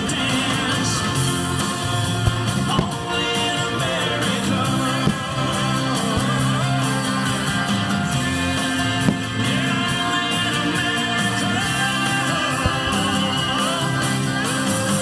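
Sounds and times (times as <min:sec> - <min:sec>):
country-rock music with singing: 0:00.0 - 0:15.0
fireworks bangs: 0:00.0 - 0:15.0.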